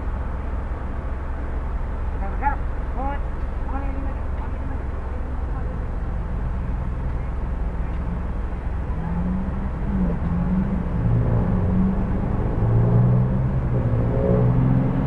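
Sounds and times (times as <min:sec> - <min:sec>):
car engine humming: 0:00.0 - 0:15.0
road traffic rumbling: 0:00.0 - 0:15.0.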